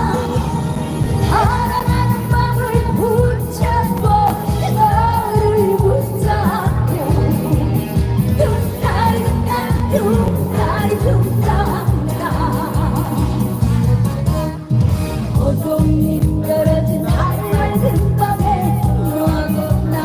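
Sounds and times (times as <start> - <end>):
woman singing with vibrato: 0.0 - 13.6, 15.4 - 20.0
amplified backing band: 0.0 - 20.0
steady drum beat: 0.0 - 20.0.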